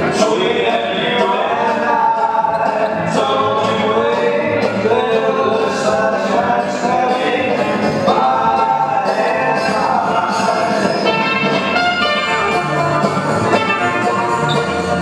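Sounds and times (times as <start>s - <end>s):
voices singing: 0.0s - 12.5s
dance music with beat: 0.0s - 15.0s.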